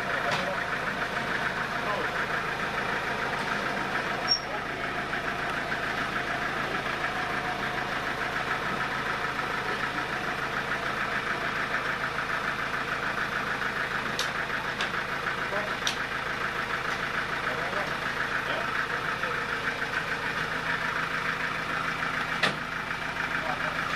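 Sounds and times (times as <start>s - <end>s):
sawmill machinery running: 0.0s - 23.9s.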